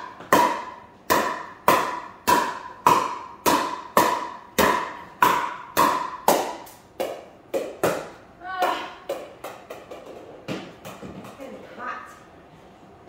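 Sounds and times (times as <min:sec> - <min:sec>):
paddle hitting plastic ball: 0:00.2 - 0:11.4.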